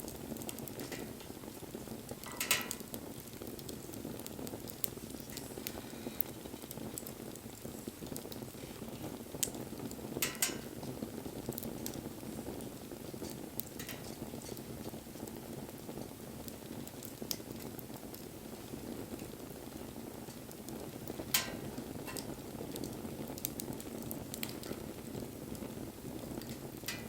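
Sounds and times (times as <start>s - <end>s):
bonfire burning rush: 0.0s - 27.0s
fire crackles and pops: 0.0s - 27.0s.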